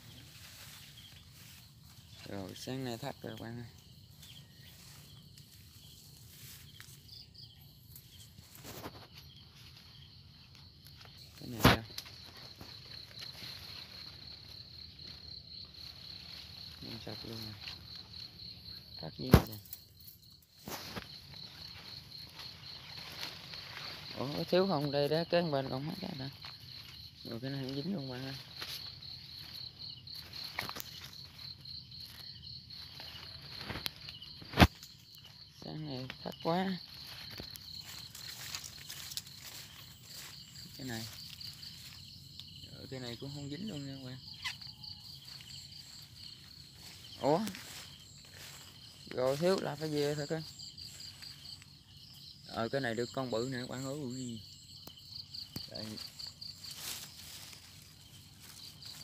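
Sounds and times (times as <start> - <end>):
footsteps through undergrowth: 0.0 - 59.0
insects chirring: 0.0 - 59.0
leaves and branches rustling: 0.0 - 59.0.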